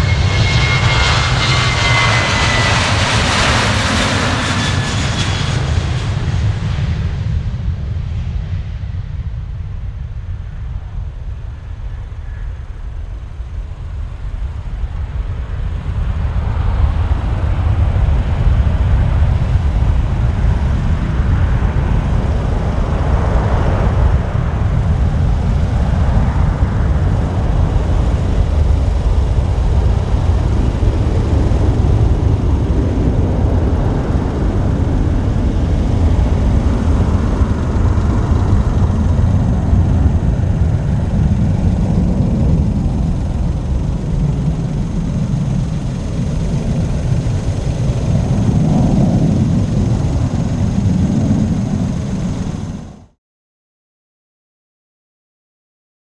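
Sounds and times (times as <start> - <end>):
jet engines rumbling at takeoff: 0.0 - 53.2.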